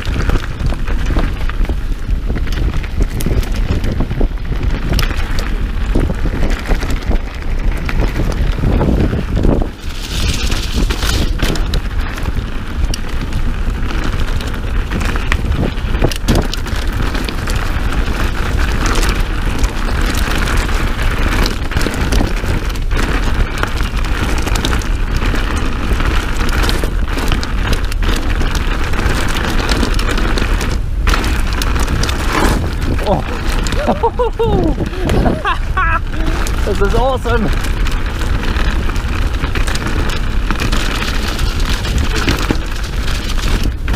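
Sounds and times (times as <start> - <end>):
bike clicking and rattling: 0.0 - 43.9
tyres crunching over ground: 0.0 - 43.9
wind rushing on microphone: 0.0 - 43.9.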